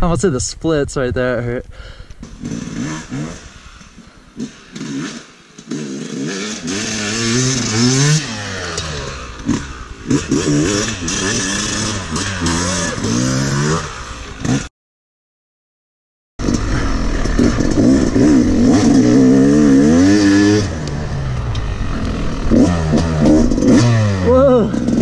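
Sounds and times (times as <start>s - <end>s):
dirt bike engine revving: 2.2s - 14.7s, 16.4s - 25.0s.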